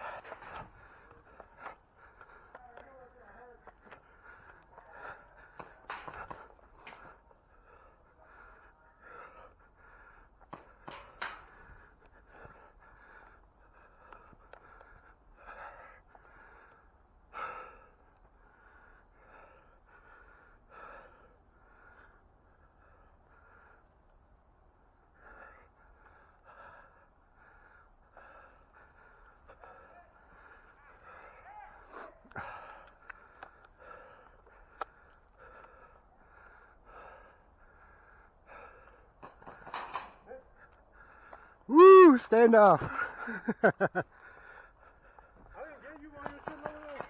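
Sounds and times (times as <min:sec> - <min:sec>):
person breathing hard: 0:00.0 - 0:03.0, 0:03.6 - 0:24.4, 0:25.0 - 0:45.6
person panting: 0:00.0 - 0:24.4, 0:25.0 - 0:47.0.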